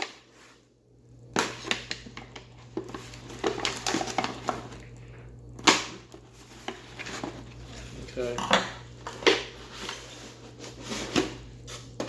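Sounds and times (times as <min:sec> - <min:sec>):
cardboard and plastic crinkling: 0:01.4 - 0:12.0.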